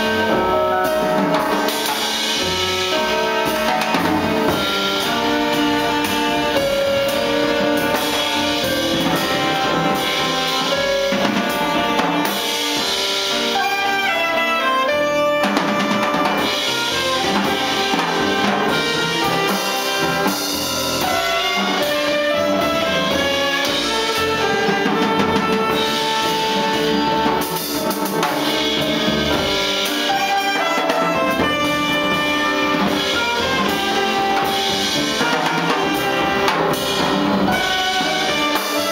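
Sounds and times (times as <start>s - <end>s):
drum kit: 0.0s - 38.9s
electric keyboards: 0.0s - 38.9s
saxophone melody: 0.0s - 38.9s
upright bass: 0.0s - 38.9s.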